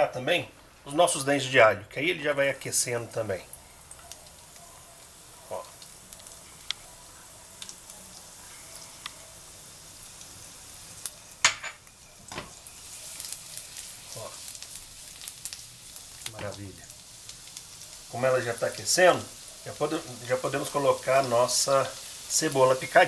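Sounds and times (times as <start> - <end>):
garlic sizzling in a frying pan: 0.0 - 23.0.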